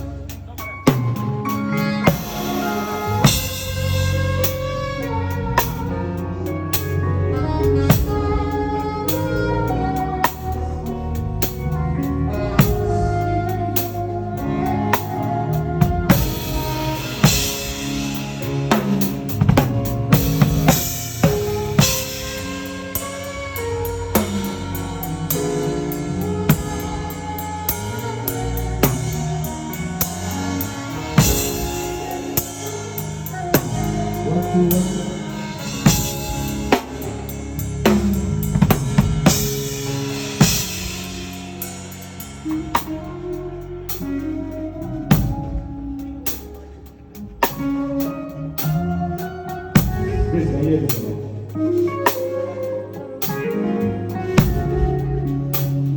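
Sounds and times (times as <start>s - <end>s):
music with drum kit: 0.0s - 55.9s.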